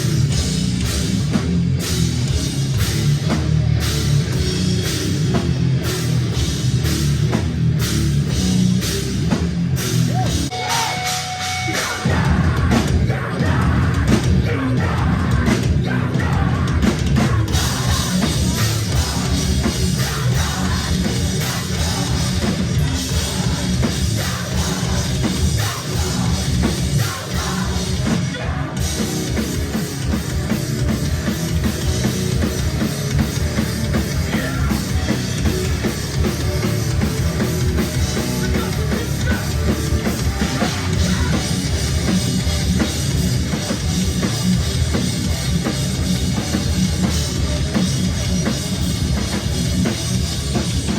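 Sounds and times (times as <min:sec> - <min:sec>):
driving drum kit: 0:00.0 - 0:50.9
loud live rock band: 0:00.0 - 0:50.9.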